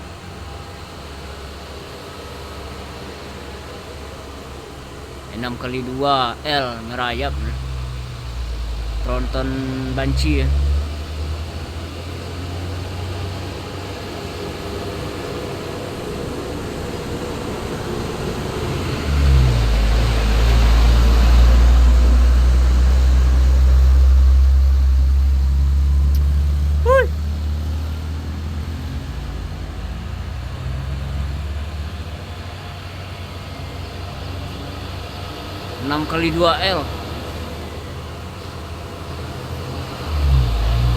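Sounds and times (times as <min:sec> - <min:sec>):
diesel truck engine labouring: 0:00.0 - 0:40.9.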